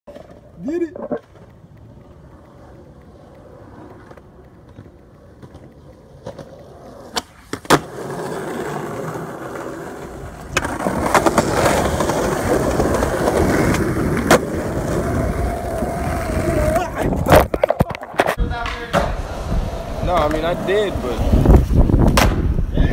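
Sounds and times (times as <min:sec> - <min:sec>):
skateboard clacks: 0:00.1 - 0:22.6
skateboard wheels rolling on asphalt: 0:00.1 - 0:22.9.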